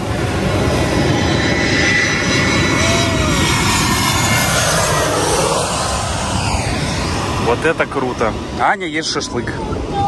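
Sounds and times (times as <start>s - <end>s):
faint high whine: 0.0s - 9.8s
jet airliner passing overhead: 0.0s - 10.0s.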